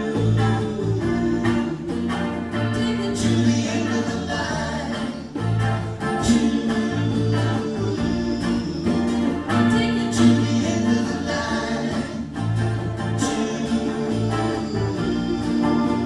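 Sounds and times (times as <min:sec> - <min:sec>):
rock band playing live: 0:00.0 - 0:16.0
sung vocals with harmonies: 0:00.0 - 0:16.0.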